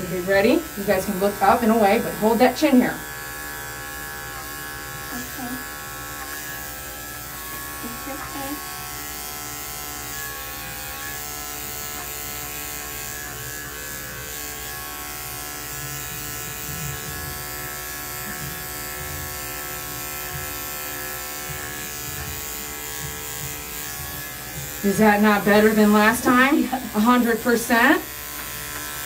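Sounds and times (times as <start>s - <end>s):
electric clipper buzzing: 0.0s - 29.0s.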